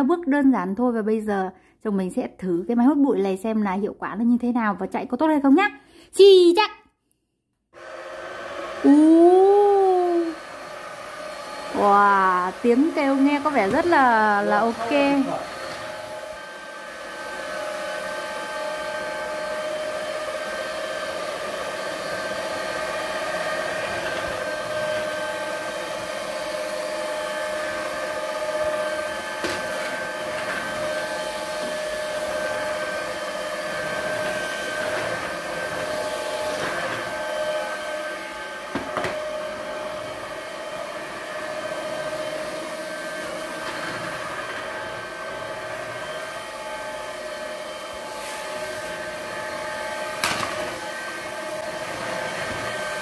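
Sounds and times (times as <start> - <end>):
vacuum cleaner motor whine: 7.8 - 53.0.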